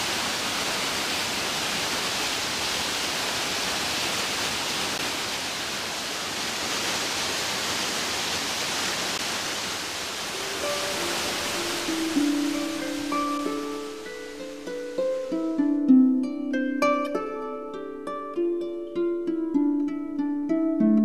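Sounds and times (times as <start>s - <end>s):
waterfall splashing over rocks: 0.0s - 18.0s.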